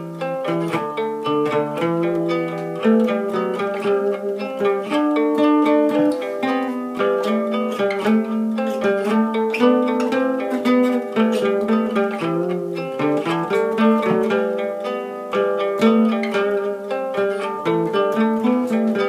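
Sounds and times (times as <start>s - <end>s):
acoustic guitar plucked melody: 0.0s - 19.0s.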